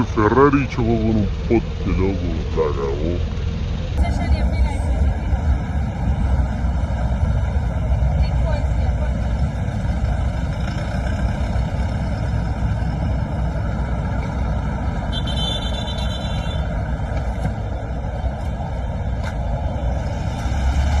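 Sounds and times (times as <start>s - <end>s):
road traffic roar: 0.0s - 21.0s.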